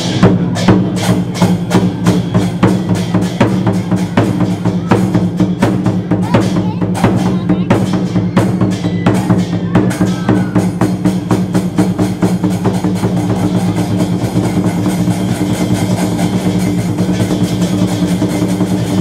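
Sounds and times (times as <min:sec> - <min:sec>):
loud drum beat: 0:00.0 - 0:19.0.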